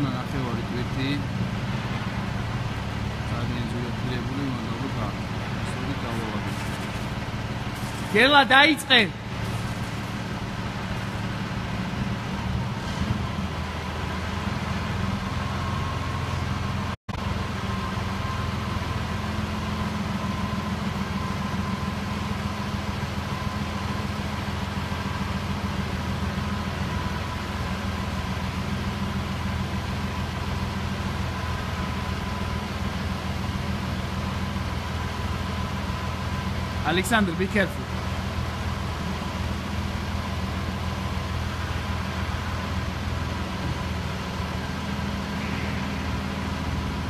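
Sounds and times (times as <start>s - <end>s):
crane engine running under load: 0.0s - 47.0s.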